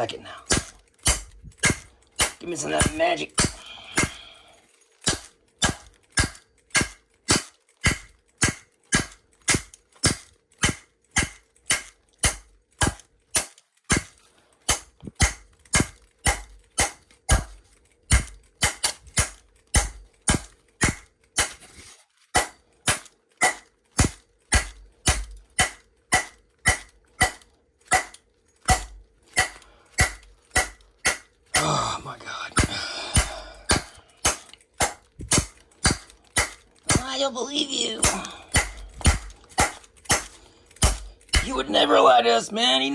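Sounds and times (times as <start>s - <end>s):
wood striking a padlock: 0.0s - 4.4s, 5.0s - 21.7s, 22.3s - 31.7s, 32.6s - 37.1s, 38.0s - 41.6s.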